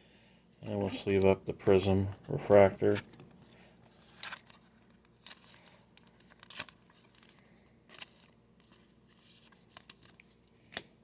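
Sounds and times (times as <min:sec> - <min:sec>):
cards and plastic crinkling: 0:00.9 - 0:11.0.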